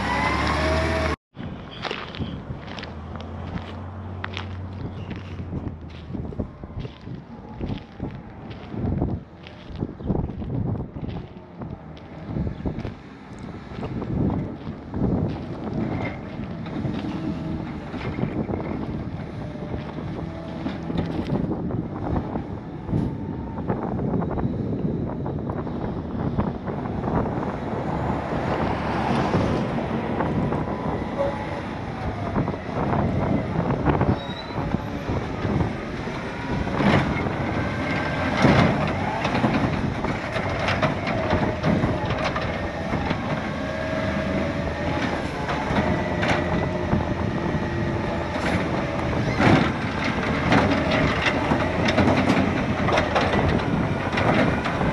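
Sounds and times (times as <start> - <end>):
garbage truck diesel engine: 0.0 - 1.8, 2.4 - 54.9.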